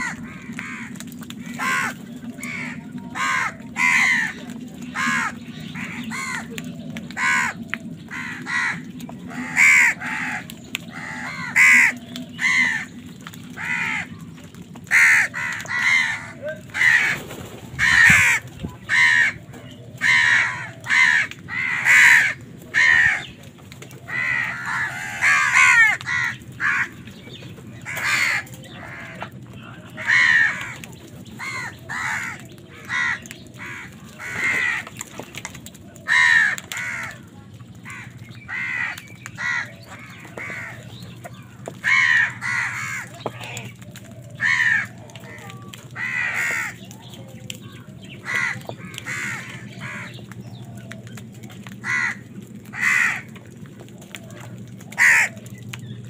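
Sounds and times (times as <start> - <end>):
crows cawing: 0.0 - 55.9.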